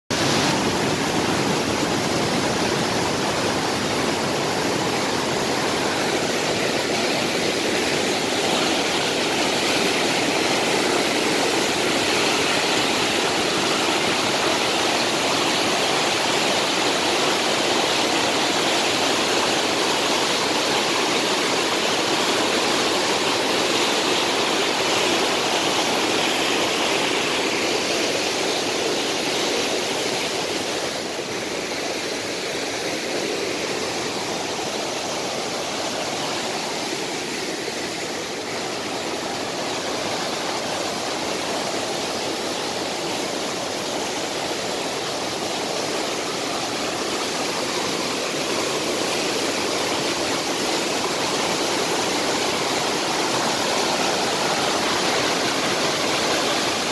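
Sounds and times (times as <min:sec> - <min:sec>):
river rushing over rocks: 0:00.1 - 0:56.9.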